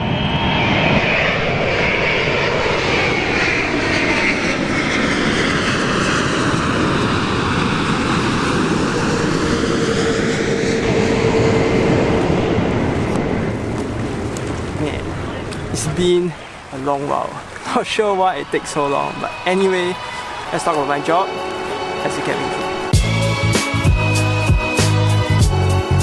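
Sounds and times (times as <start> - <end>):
jet engines passing overhead: 0.0 - 24.8.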